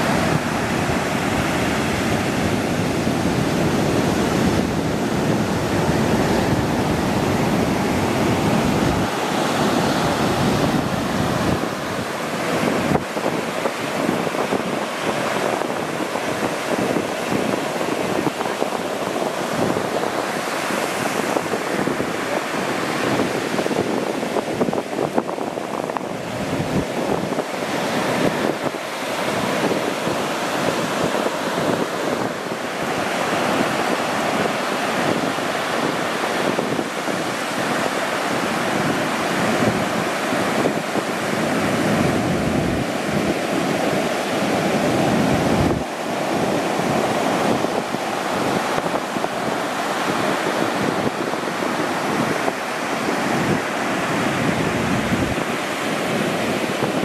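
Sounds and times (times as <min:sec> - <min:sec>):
waves breaking: 0:00.0 - 0:57.0.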